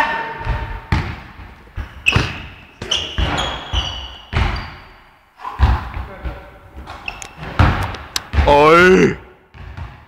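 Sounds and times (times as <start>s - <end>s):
basketball bouncing in a hall: 0.2s - 10.0s
sneakers squeaking on floor: 0.4s - 8.5s.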